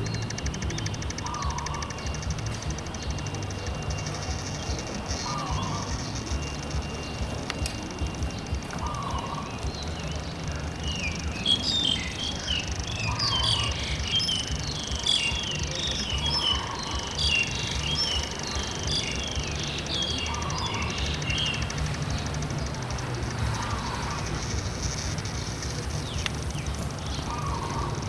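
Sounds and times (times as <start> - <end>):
low soft bird call: 0.0 - 28.0
small birds chirping: 0.0 - 28.0
steady low rumble: 0.0 - 28.0.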